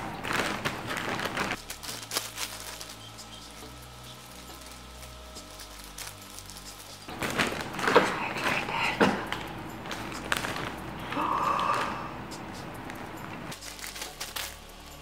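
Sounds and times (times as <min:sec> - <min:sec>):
plastic bag crinkling: 0:00.0 - 0:15.0
scissors cutting plastic: 0:00.0 - 0:15.0.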